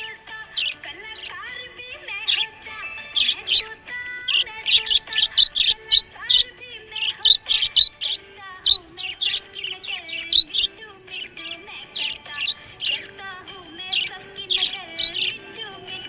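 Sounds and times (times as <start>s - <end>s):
budgerigars chirping: 0.0s - 13.2s, 13.8s - 16.0s
background music with held notes: 0.0s - 16.0s.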